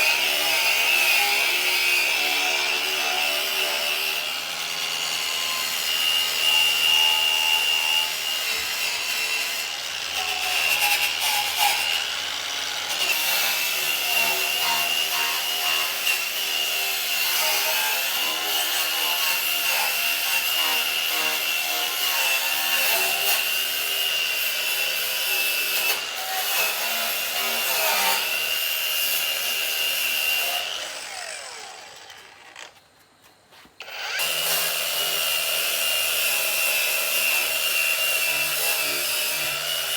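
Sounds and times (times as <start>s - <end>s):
power tool whining: 0.0s - 32.9s, 33.8s - 39.9s.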